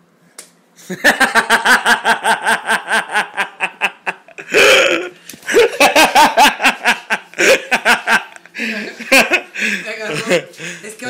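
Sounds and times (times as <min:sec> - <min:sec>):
woman laughing: 0:00.9 - 0:10.6.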